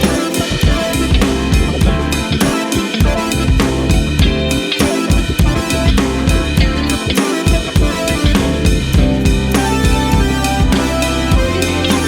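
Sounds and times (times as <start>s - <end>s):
bass: 0.0s - 12.0s
drum-kit beat: 0.0s - 12.0s.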